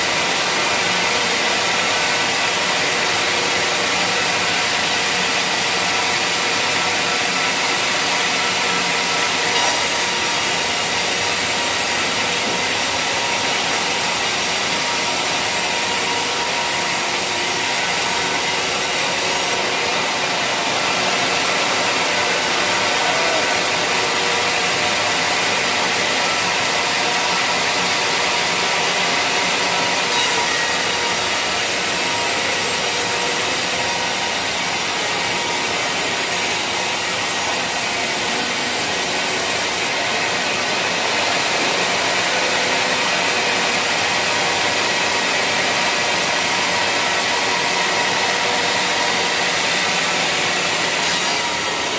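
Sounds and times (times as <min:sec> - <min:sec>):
sawmill saw cutting log: 0:00.0 - 0:51.9.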